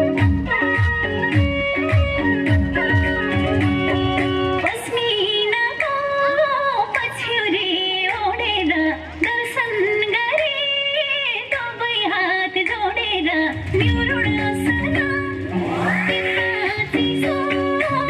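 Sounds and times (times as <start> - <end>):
instrumental backing with bass: 0.0 - 10.6, 12.8 - 18.0
high singing voice: 0.0 - 18.0.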